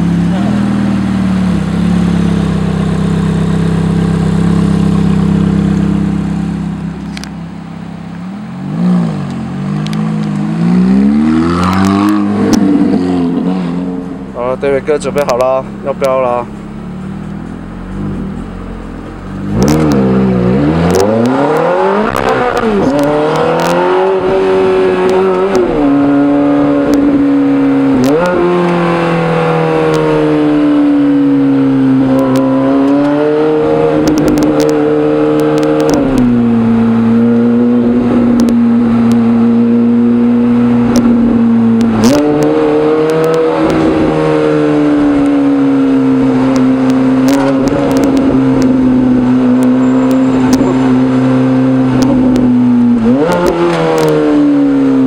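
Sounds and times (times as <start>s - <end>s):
sports car engine accelerating: 0.0s - 55.0s.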